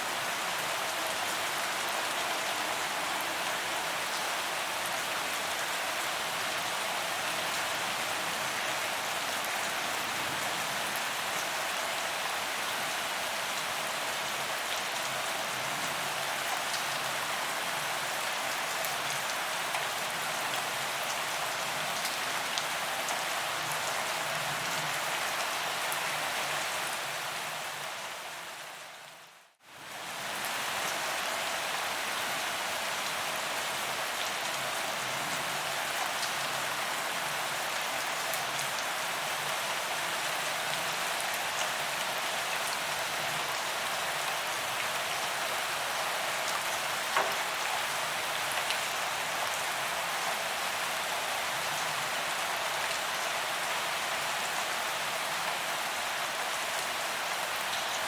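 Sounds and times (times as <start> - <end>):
rain on pavement: 0.0 - 58.0.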